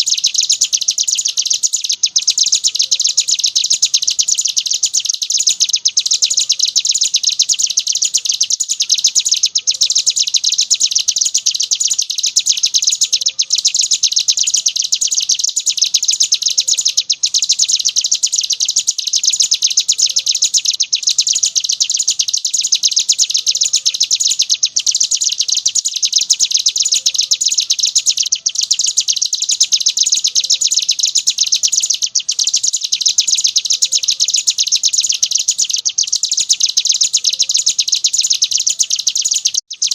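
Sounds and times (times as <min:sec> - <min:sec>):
bird high-pitched trill: 0:00.0 - 0:39.9.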